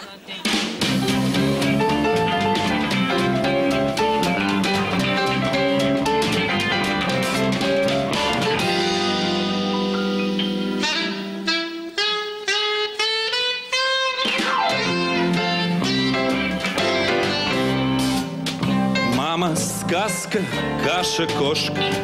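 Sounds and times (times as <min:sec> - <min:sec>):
small band playing: 0:00.0 - 0:22.0.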